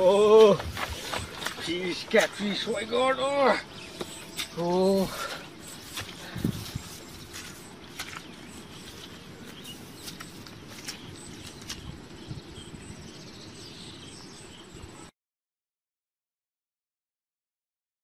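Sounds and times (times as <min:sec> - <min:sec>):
insects chirping: 0:00.0 - 0:15.1
small birds calling: 0:00.0 - 0:15.1.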